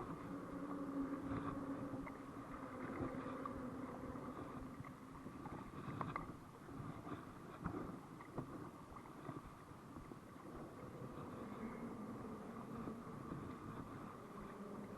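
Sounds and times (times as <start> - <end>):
water around kayak: 0.0 - 14.9
wind on microphone: 0.0 - 14.9.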